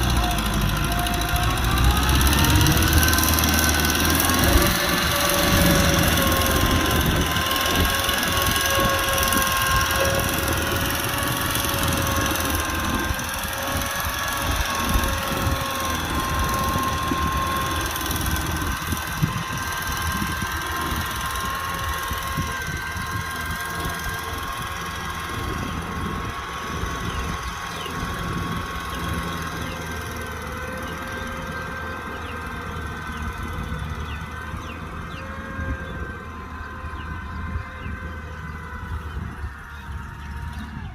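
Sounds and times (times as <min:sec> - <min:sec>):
steady whine: 0:00.0 - 0:40.9
tractor diesel engine running: 0:00.0 - 0:40.9.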